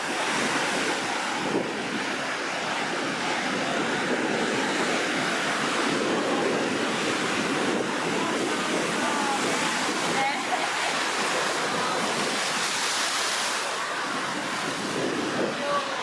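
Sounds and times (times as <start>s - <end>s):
rough surf breaking: 0.0s - 16.0s
wind on microphone: 0.0s - 16.0s.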